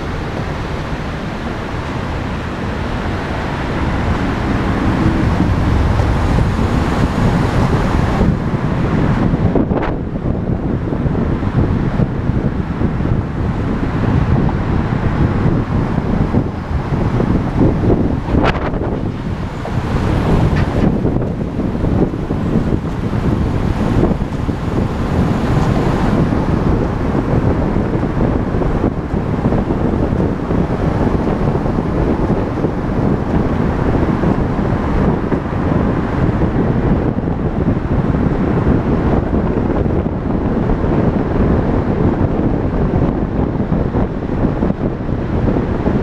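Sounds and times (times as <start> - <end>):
vehicle and road noise: 0.0 - 46.0
wind buffeting microphone: 0.0 - 46.0.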